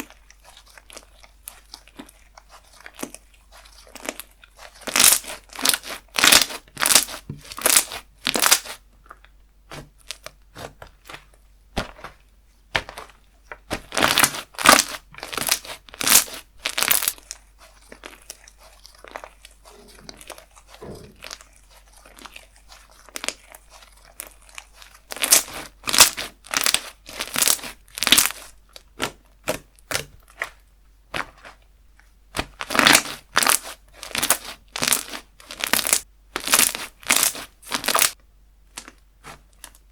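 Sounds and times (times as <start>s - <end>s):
soft slime crackling: 0.0s - 39.9s.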